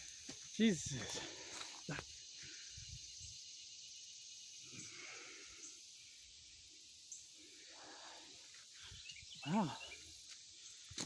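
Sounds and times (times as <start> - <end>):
insects hissing: 0.0 - 11.0.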